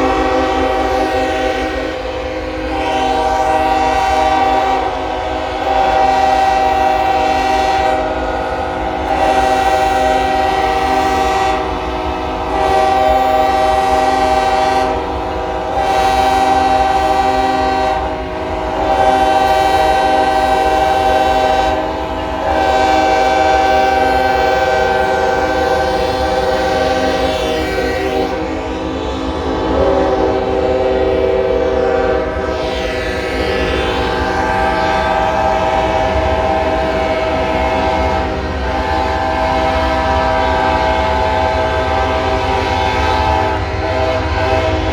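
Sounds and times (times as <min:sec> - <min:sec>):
locomotive horns chord: 0:00.0 - 0:44.9.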